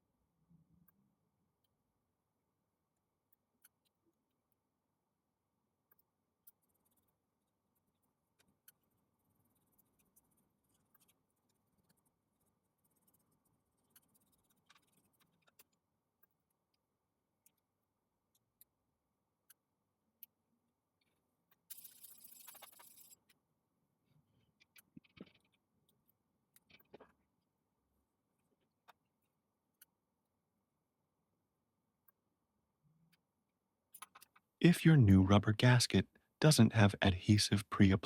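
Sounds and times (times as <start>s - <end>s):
faint small ticks and clicks: 0.5s - 2.0s, 2.9s - 30.5s, 31.9s - 34.6s.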